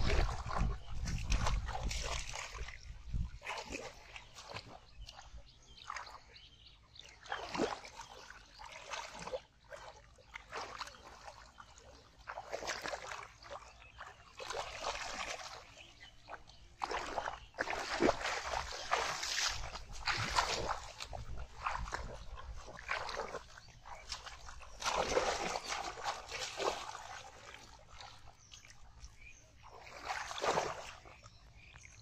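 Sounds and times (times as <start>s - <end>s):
muddy water splashing: 0.0s - 32.0s.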